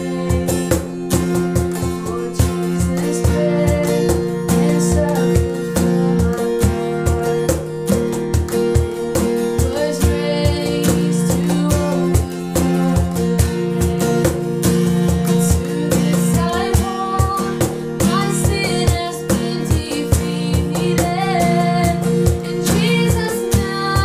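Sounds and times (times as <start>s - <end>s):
woman singing: 0.0s - 8.0s, 9.4s - 24.0s
cajon thumps: 0.0s - 24.0s
strummed acoustic guitar: 0.0s - 24.0s.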